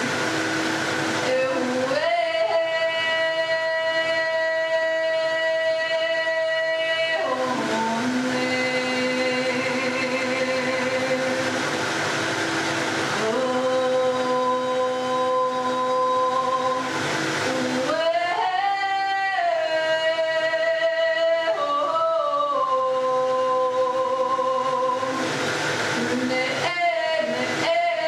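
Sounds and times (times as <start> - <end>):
blender whirring: 0.0 - 5.5, 6.2 - 19.7, 22.6 - 28.0
woman singing held tones: 1.2 - 11.7, 13.1 - 28.0.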